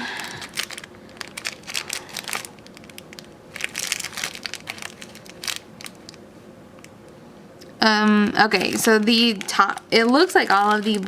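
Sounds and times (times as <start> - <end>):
plastic baggies crinkling: 0.0 - 6.9, 7.8 - 11.0.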